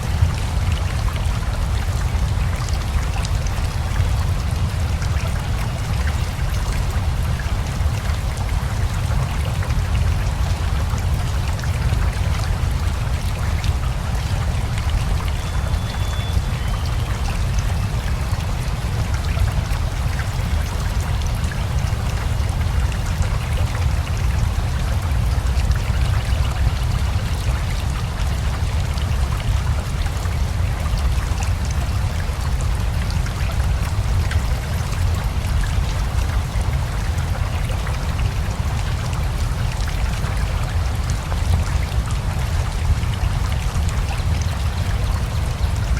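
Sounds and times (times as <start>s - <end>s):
river flowing: 0.0s - 45.9s
steady rain: 0.0s - 45.9s.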